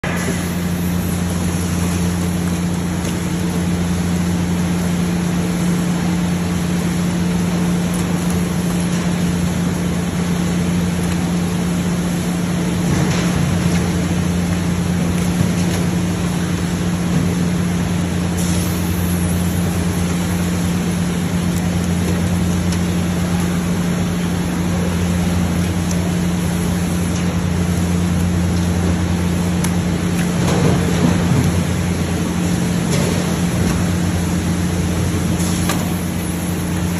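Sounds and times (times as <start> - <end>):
machinery hum and rumble: 0.0 - 36.9.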